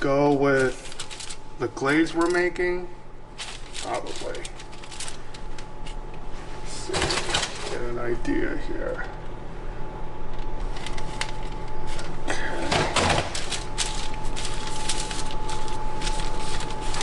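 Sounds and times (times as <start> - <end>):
parchment paper rustling: 0.0 - 2.5, 3.3 - 7.8, 10.4 - 17.0.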